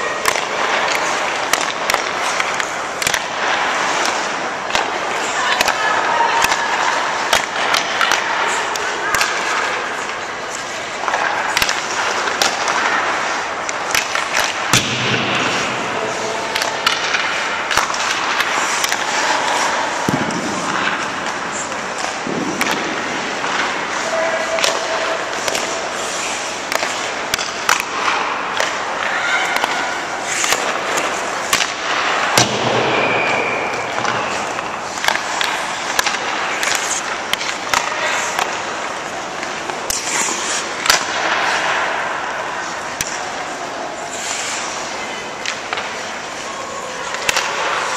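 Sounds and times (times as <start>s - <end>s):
pucks and sticks cracking: 0.0s - 47.9s
skate blades scraping ice: 0.0s - 47.9s.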